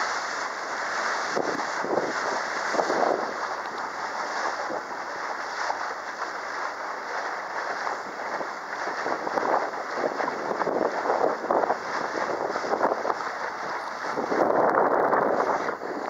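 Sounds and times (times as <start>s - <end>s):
water rushing past boat hull: 0.0s - 16.0s
wind buffeting microphone: 1.0s - 16.0s.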